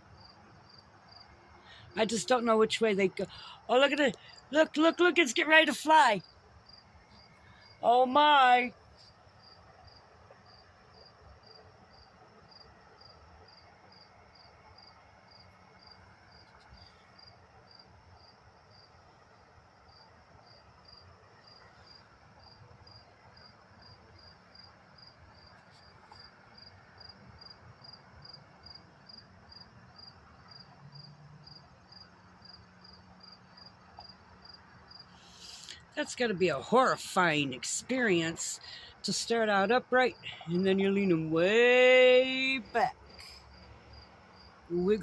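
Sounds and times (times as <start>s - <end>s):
cricket chirping: 0.0s - 35.9s, 42.2s - 45.0s.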